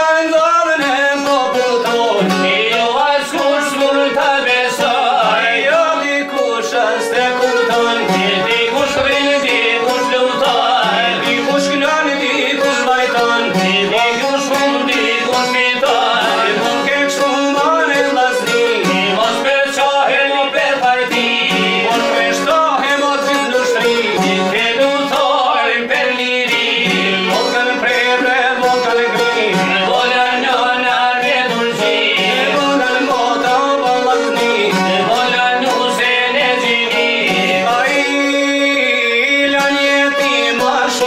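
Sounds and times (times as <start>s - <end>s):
long-necked lutes plucked: 0.0s - 41.0s
man singing: 0.0s - 41.0s
violin playing: 0.0s - 41.0s.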